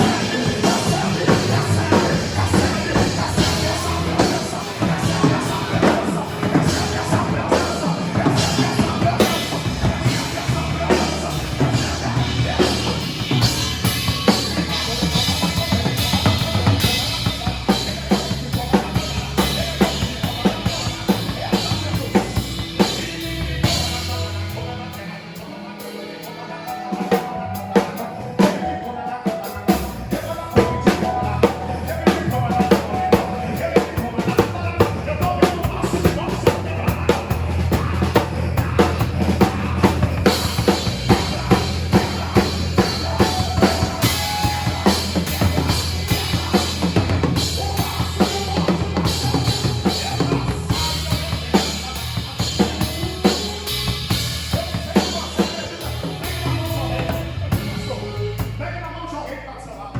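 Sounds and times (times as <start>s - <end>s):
gospel band playing instrumental: 0.0s - 59.9s.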